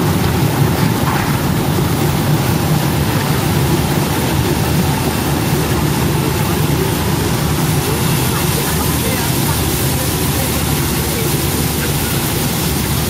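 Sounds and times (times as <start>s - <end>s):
machine pumps droning: 0.0s - 13.0s
water hissing with air bubbles: 0.0s - 13.0s.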